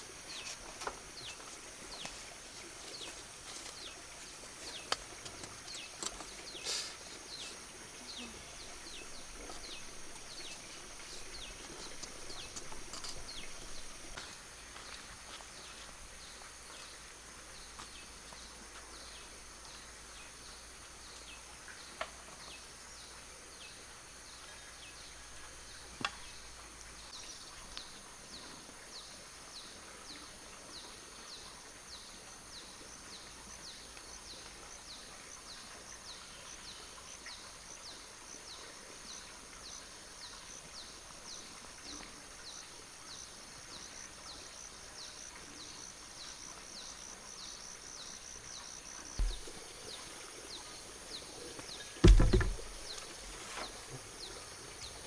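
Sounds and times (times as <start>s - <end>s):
insect hum: 0.0s - 55.0s.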